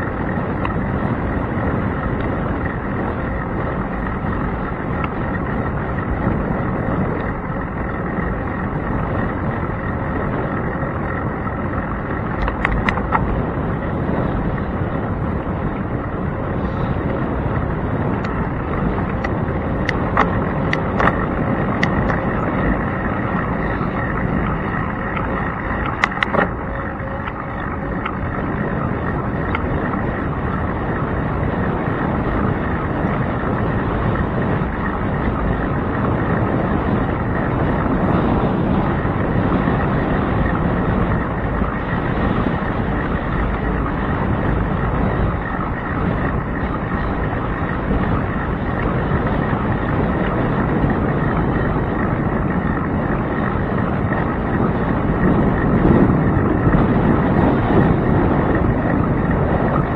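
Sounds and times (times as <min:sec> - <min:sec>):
road rumble: 0:00.0 - 0:59.9
wind noise on microphone: 0:00.0 - 0:59.9.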